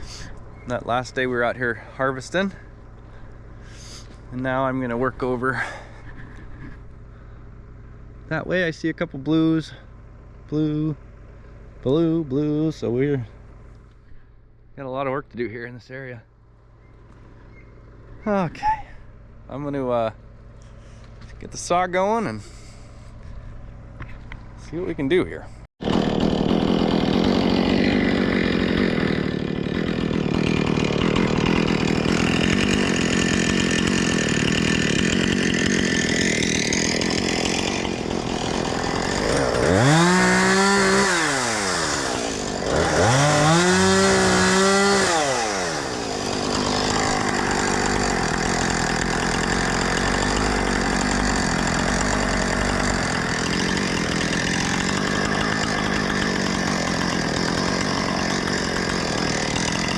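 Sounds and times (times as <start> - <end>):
chainsaw running and revving: 0.0 - 8.4, 17.8 - 18.4, 20.5 - 59.9.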